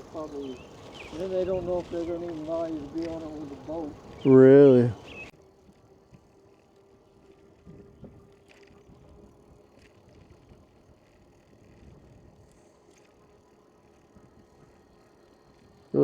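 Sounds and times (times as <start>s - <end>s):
faint electric motor hum: 0.0s - 16.0s
low riding rumble: 0.0s - 16.0s.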